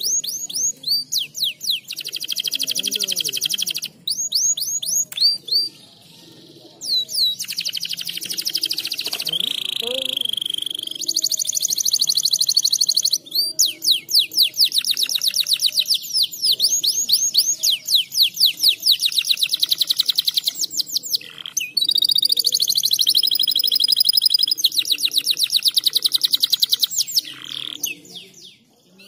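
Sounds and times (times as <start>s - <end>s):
canary singing trills: 0.0s - 29.0s.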